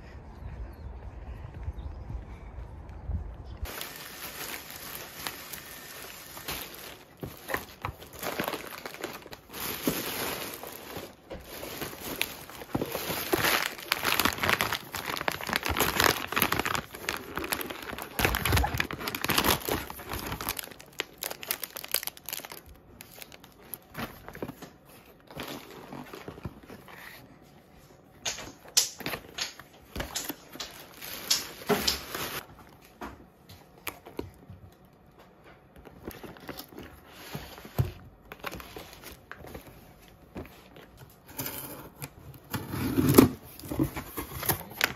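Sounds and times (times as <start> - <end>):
plastic bags crinkling and rustling: 3.6 - 44.9.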